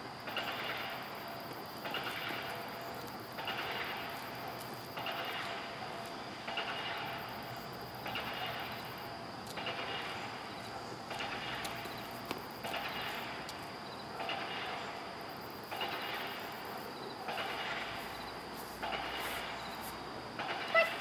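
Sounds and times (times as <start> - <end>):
insects buzzing chorus: 0.0 - 21.0.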